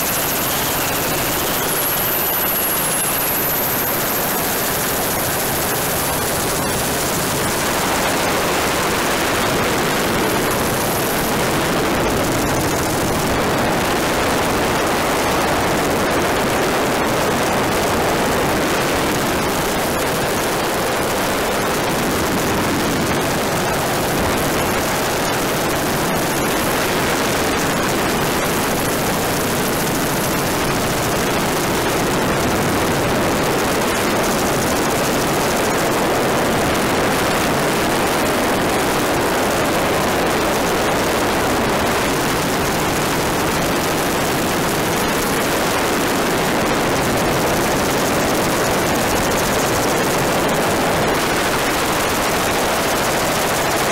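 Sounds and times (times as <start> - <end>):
helicopter rotor wash: 0.0 - 53.9
wind blowing over microphone: 0.0 - 53.9.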